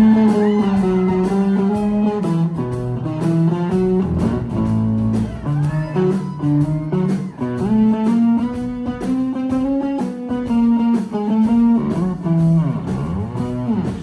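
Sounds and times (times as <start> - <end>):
bass and rhythm: 0.0 - 14.0
electric guitar lead: 0.0 - 14.0.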